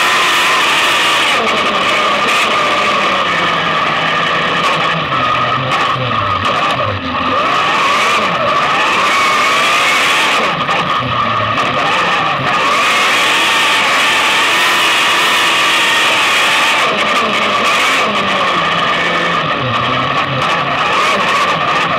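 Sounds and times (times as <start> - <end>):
racing car engine revving: 0.0 - 21.9.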